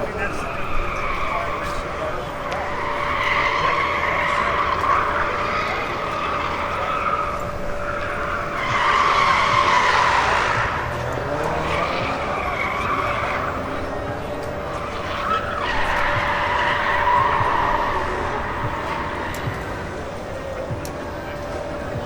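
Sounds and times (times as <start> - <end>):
busy hall crowd din: 0.0 - 22.0.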